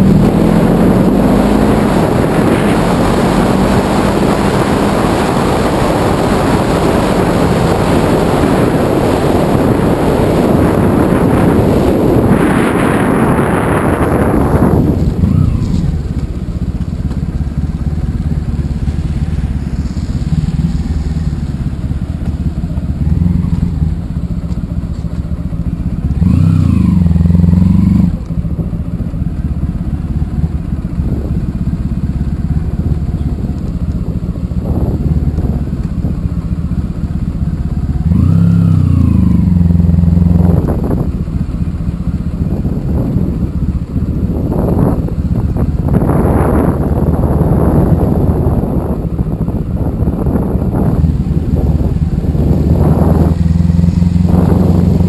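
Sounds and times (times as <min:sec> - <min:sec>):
motorcycle engine accelerating: 0:00.0 - 0:55.0
wind and road noise: 0:00.0 - 0:55.0.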